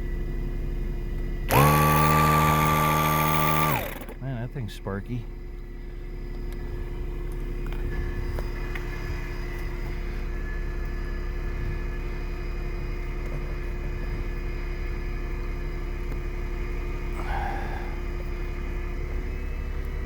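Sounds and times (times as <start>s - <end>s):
car engine idling: 0.0s - 20.0s
tire inflator compressor humming: 0.0s - 20.0s.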